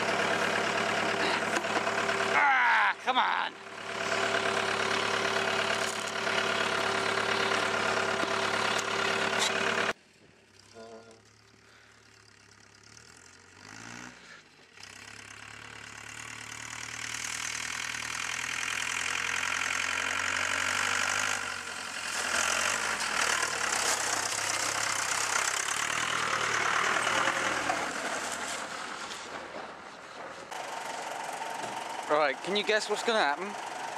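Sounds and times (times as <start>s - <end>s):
diesel van engine running: 0.0s - 33.9s.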